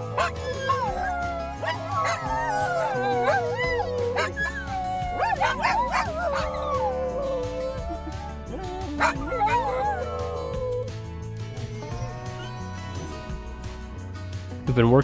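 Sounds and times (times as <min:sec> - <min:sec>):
dogs yipping and barking: 0:00.0 - 0:13.5
dogs whining and howling: 0:00.0 - 0:13.6.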